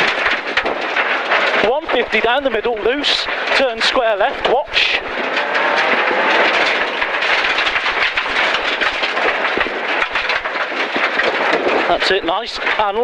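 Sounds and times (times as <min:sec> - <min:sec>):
gravel hitting car underside: 0:00.0 - 0:13.0.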